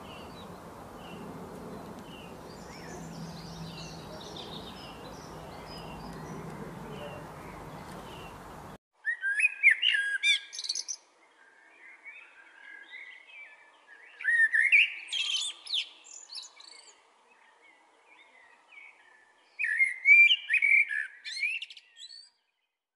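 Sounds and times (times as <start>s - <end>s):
blackbird singing: 0.0s - 22.6s.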